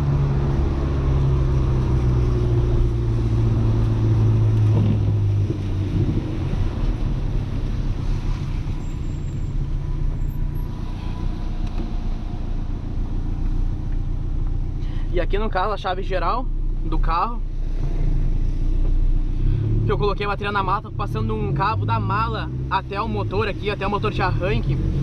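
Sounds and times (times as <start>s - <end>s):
car engine from inside cabin: 0.0s - 25.0s
road and tyre rumble: 0.0s - 25.0s.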